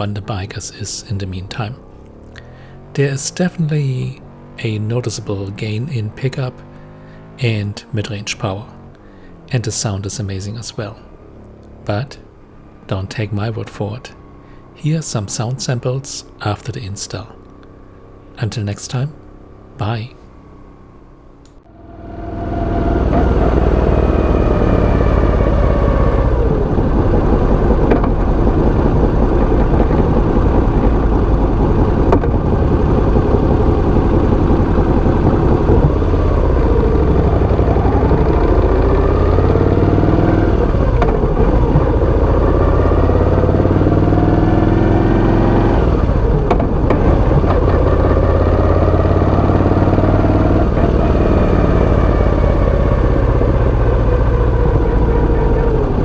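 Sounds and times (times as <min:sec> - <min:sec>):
motorcycle engine revving: 0:00.0 - 0:18.4, 0:19.1 - 0:56.0.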